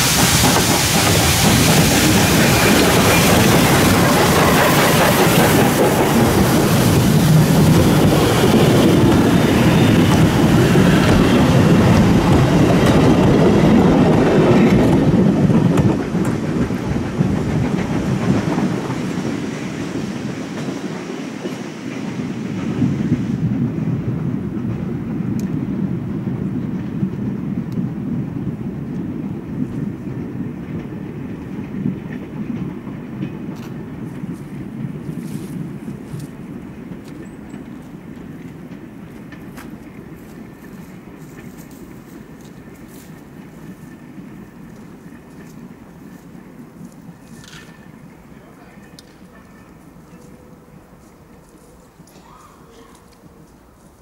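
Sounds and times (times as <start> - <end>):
steam train passing: 0.0 - 54.0.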